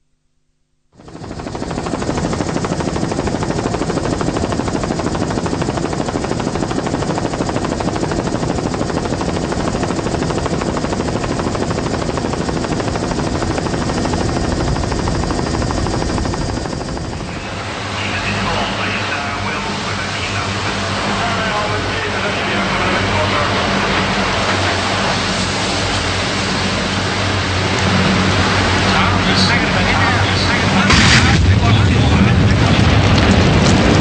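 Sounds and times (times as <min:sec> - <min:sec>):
helicopter rotor chopping: 0:00.9 - 0:34.0.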